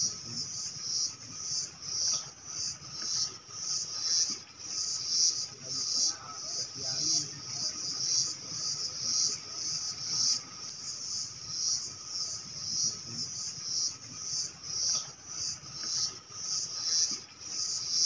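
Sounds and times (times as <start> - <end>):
insects chirping in pulsing chorus: 0.0 - 18.0.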